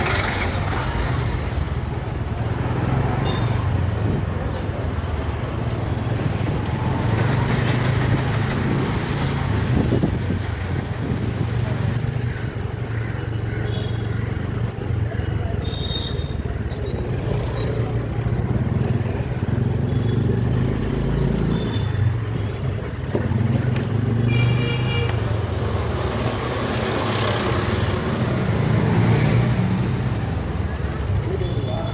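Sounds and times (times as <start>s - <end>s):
traffic engines humming: 0.0s - 31.9s.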